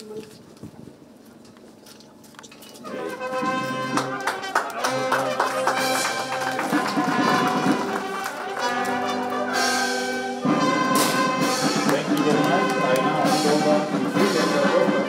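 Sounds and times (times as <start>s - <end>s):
brass band playing: 2.8s - 15.0s.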